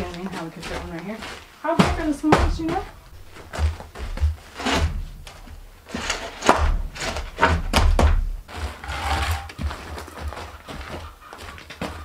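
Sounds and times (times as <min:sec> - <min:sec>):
pallet scraping on dirt: 0:00.0 - 0:12.0
wooden pallets knocking and thudding: 0:00.0 - 0:12.0.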